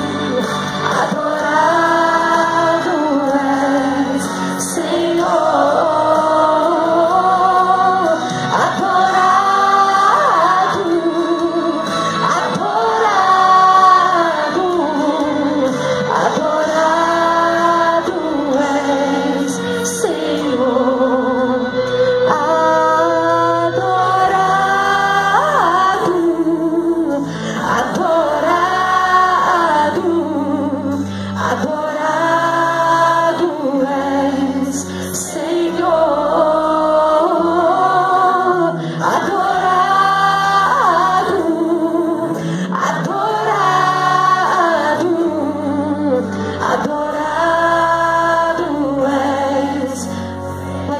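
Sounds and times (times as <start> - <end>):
instrumental accompaniment with bass: 0.0 - 50.9
woman singing through microphone: 0.0 - 50.9.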